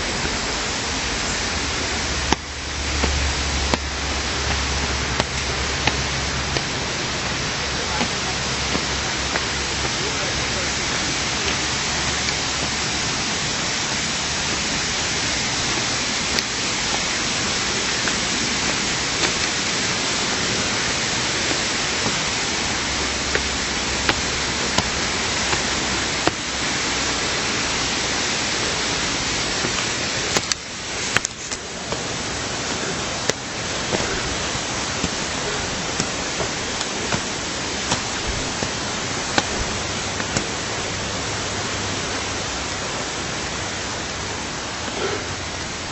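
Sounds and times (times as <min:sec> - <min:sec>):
water rushing in a stream: 0:00.0 - 0:45.9.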